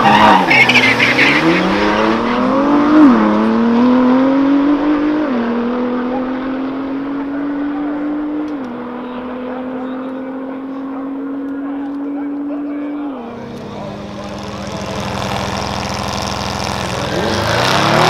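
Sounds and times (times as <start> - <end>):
car engine at full throttle: 0.0 - 18.0.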